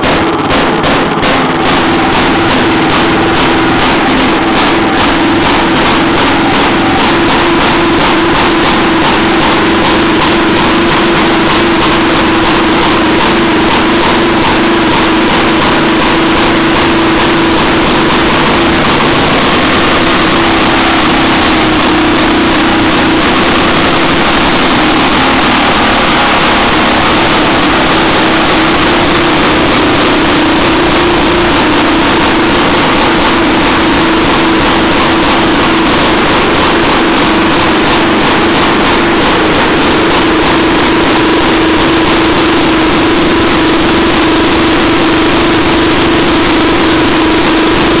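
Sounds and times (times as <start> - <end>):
two-stroke mower engine running: 0.0 - 48.0.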